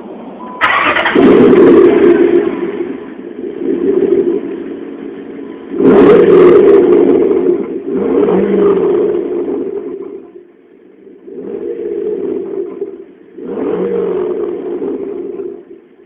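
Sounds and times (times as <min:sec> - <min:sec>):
car exhaust revving: 0:00.0 - 0:16.0.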